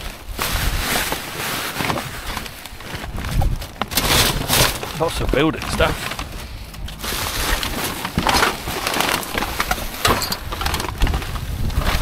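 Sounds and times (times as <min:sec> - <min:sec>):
plastic bags rustling: 0:00.0 - 0:12.0
knocks and clatters of debris: 0:01.7 - 0:12.0.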